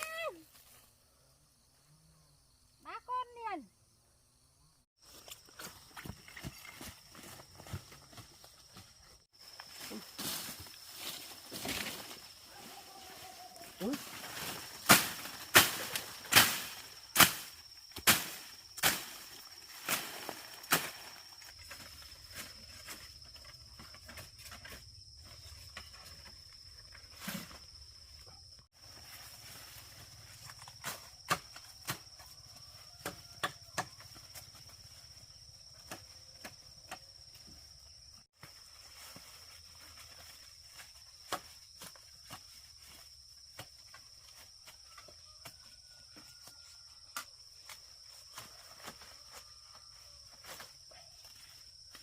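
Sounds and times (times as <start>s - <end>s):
cricket trilling: 0.0s - 52.0s
insects chirring: 0.0s - 52.0s.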